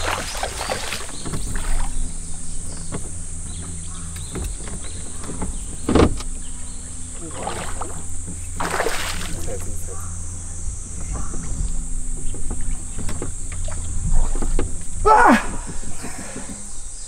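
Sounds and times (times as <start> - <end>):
electric trolling motor humming: 0.0 - 17.0.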